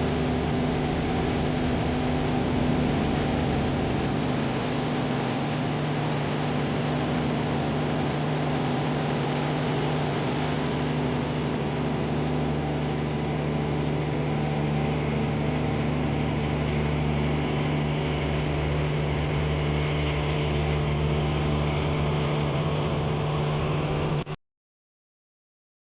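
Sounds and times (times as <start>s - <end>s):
boat engine running: 0.0s - 24.2s.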